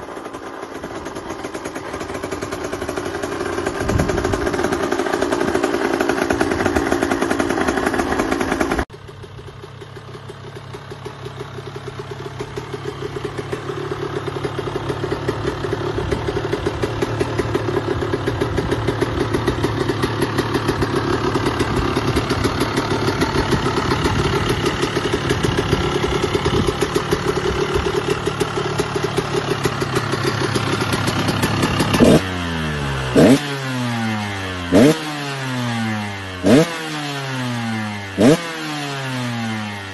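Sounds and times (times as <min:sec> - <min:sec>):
motocross bike engine idling: 0:00.0 - 0:39.9
motocross bike engine running loudly: 0:00.0 - 0:39.9.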